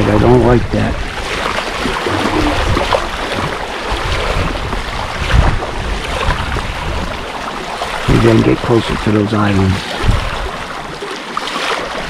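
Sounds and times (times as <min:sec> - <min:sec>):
wind buffeting microphone: 0:00.0 - 0:11.0
waves slapping against hull: 0:00.0 - 0:12.0.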